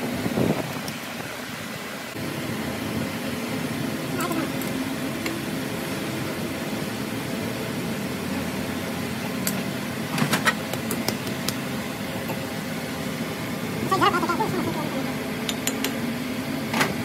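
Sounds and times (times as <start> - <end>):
workshop machinery hum: 0.0 - 17.0.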